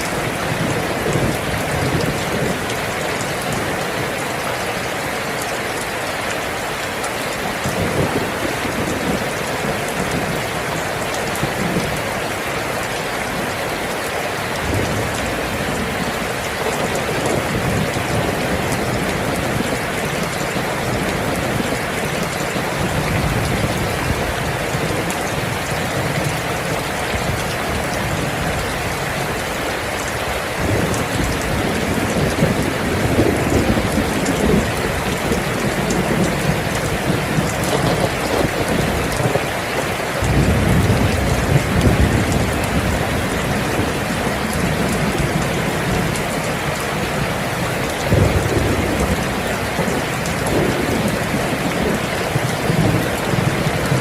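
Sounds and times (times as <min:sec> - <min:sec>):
thunder rumbling: 0:00.0 - 0:04.4, 0:07.6 - 0:12.0, 0:14.5 - 0:54.0
heavy rain: 0:00.0 - 0:54.0.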